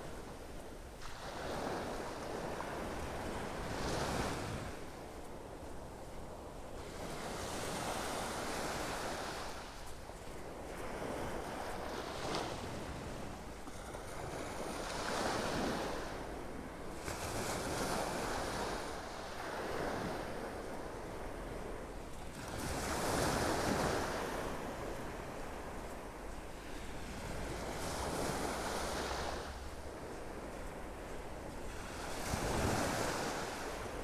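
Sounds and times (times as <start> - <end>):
small waves breaking on shore: 0.0 - 34.0
wind rumble on microphone: 0.0 - 34.0.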